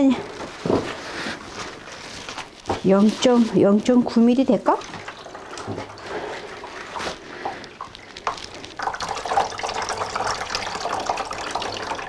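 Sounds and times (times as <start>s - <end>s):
liquid pouring and splashing: 0.2s - 12.0s.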